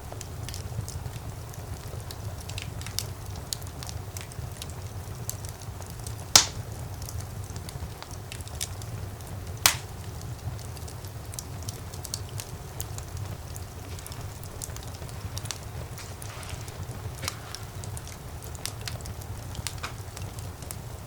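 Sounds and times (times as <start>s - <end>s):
fire crackling: 0.0s - 21.0s
loud fire pops: 0.0s - 21.0s
rumble of flames: 0.0s - 21.0s.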